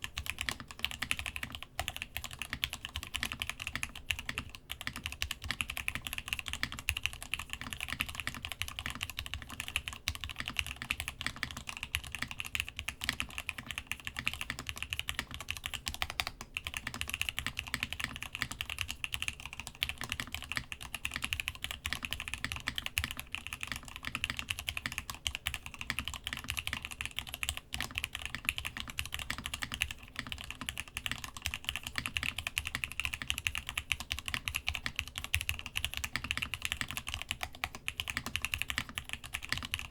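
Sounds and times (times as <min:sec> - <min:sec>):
rapid mechanical keyboard typing: 0:00.0 - 0:39.9.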